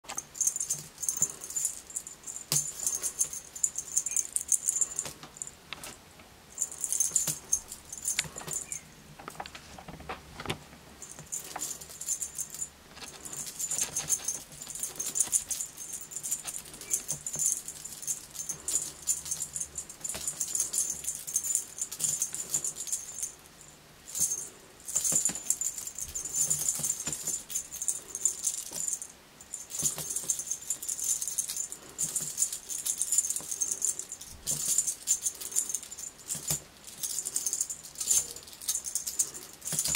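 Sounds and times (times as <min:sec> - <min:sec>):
cat toy jingling rattle: 0:00.0 - 0:08.8, 0:11.0 - 0:39.9.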